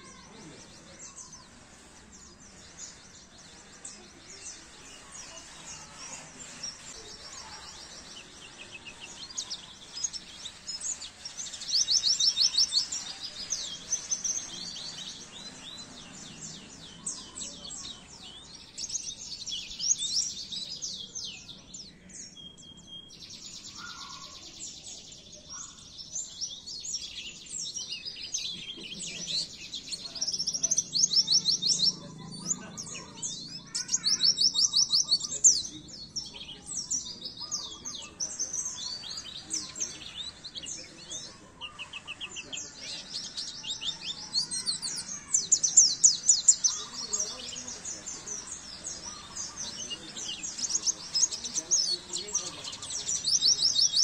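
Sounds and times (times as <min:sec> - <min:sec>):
white-eye twittering song: 0:00.0 - 0:54.0.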